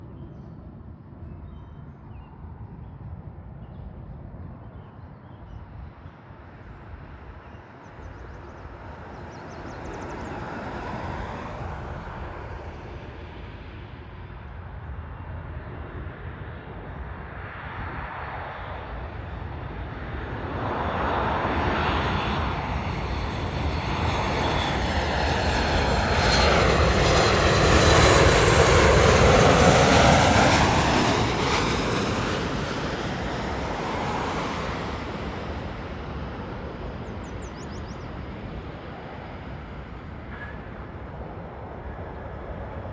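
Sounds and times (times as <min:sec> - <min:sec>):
jet airliner passing overhead: 0:00.0 - 0:42.9.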